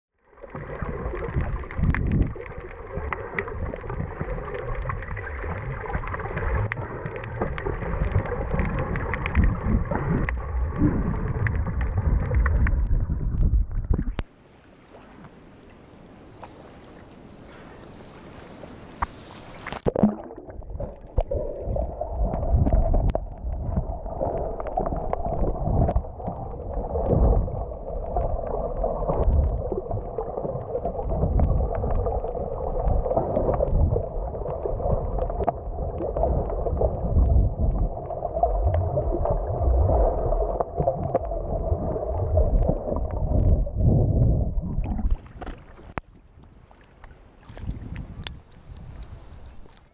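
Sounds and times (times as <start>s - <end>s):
muffled underwater churning rush: 0.4s - 14.2s, 16.2s - 46.0s.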